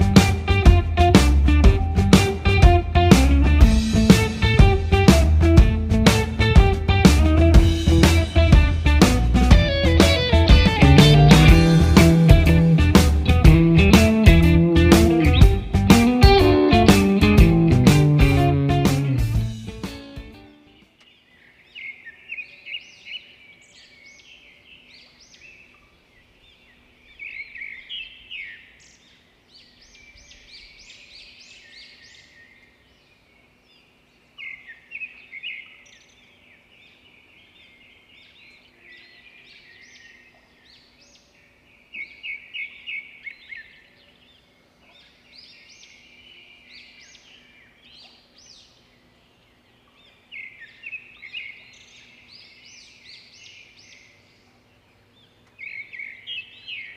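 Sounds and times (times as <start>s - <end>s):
birds chirping: 0.0s - 56.9s
faint background noise: 0.0s - 56.9s.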